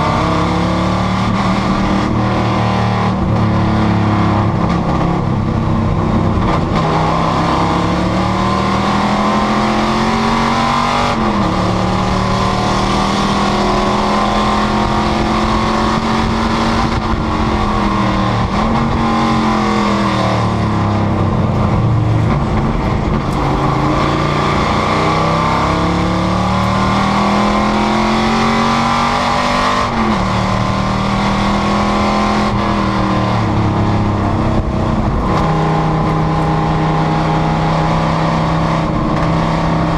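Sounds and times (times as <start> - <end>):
race car engine pulling hard: 0.0 - 39.9.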